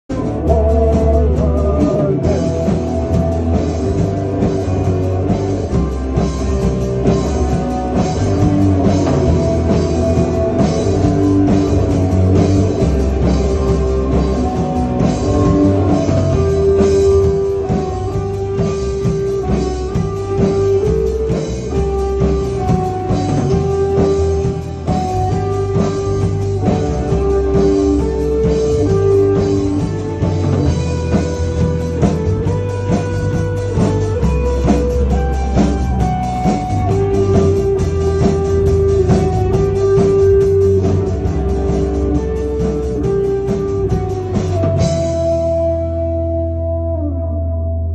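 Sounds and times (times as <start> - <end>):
bass guitar: 0.0 - 47.9
electric guitar: 0.0 - 47.9
drum kit steady beat: 0.1 - 46.4
lead guitar melody: 0.1 - 47.9.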